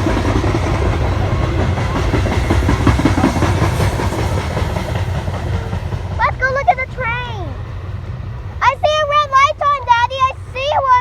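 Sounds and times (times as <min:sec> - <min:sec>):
train rumbling past: 0:00.0 - 0:11.0
wheels clattering on rails: 0:00.0 - 0:11.0.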